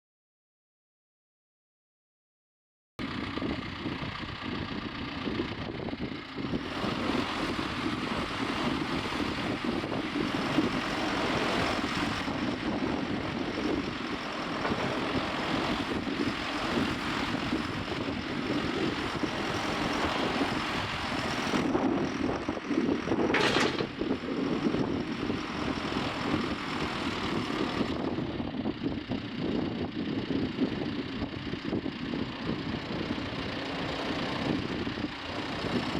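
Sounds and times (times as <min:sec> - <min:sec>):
diesel engine running: 0:03.0 - 0:35.9.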